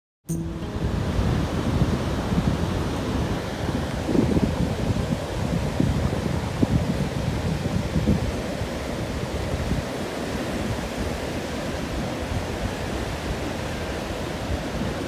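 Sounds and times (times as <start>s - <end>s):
ocean surf: 0.3s - 15.0s
wind buffeting microphone: 0.7s - 15.0s.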